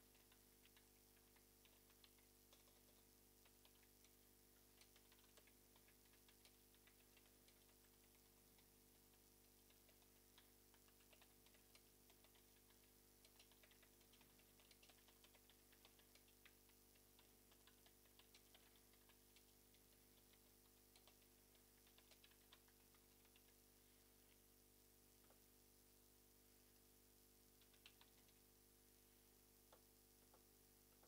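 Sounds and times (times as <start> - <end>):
keyboard typing: 0.0 - 24.4, 27.5 - 28.5
low electrical hum: 0.0 - 31.0.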